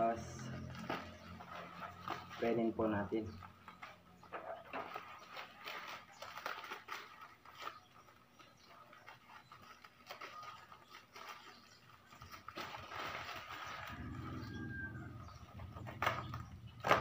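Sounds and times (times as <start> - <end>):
plastic wrapping crinkling: 0.4 - 17.0.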